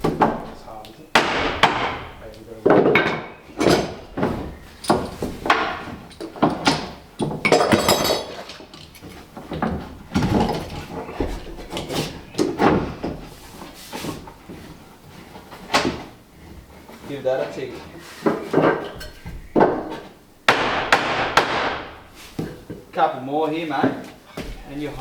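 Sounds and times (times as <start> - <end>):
knocks and thuds on wood: 0.0 - 16.7, 18.2 - 22.8, 23.9 - 25.0.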